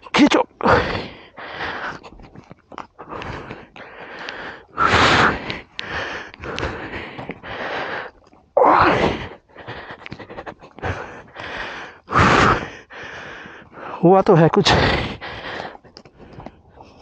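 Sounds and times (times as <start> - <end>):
man breathing heavily: 0.6 - 17.0.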